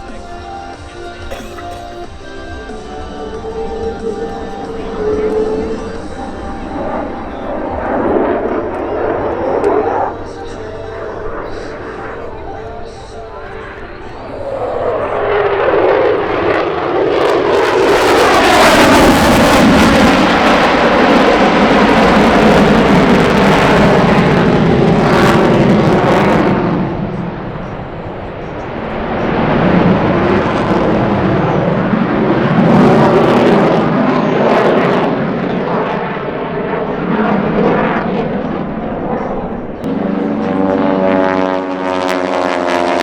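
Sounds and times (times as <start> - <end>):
aircraft engines flying low past: 0.0 - 43.0.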